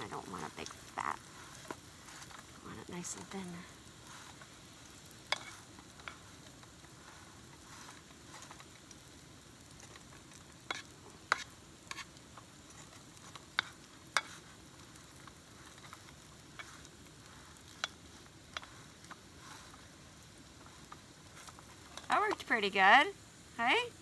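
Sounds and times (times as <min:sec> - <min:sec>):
oil ticks and pops: 0:00.0 - 0:22.8
dough sizzling in oil: 0:00.0 - 0:24.0.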